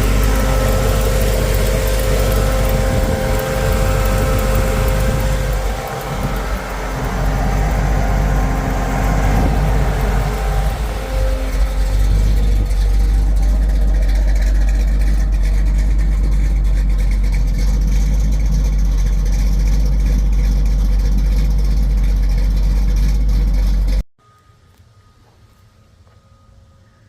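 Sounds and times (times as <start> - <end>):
car engine rumbling: 0.0 - 24.1.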